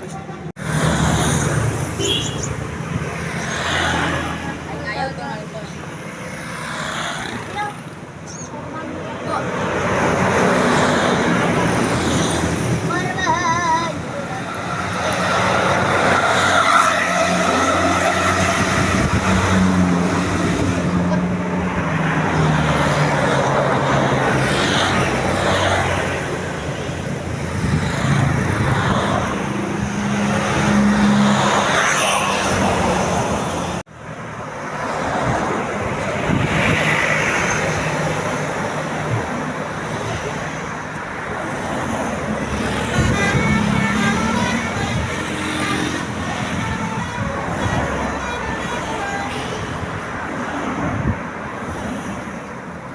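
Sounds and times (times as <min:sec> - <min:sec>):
bus engines driving past: 0:00.0 - 0:52.9
road noise: 0:00.0 - 0:52.9.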